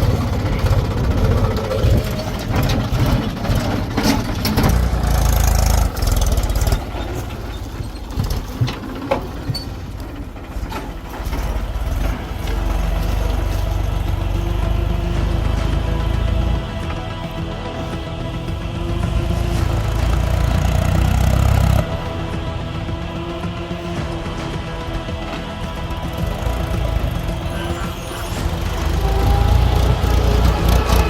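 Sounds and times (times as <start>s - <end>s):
heavy machinery diesel engine: 0.0s - 31.0s
knocks and clanks: 0.0s - 31.0s.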